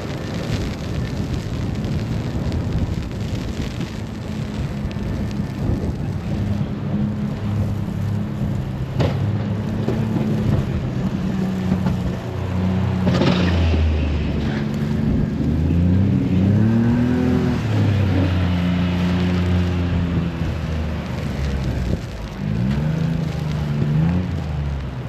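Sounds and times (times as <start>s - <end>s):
vehicle engine accelerating: 0.0s - 25.0s.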